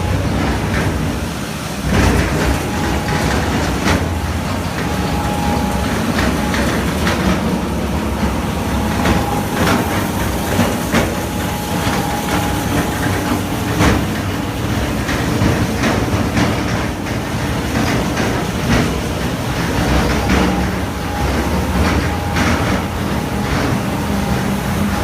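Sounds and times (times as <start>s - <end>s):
machine rumbling: 0.0s - 25.0s.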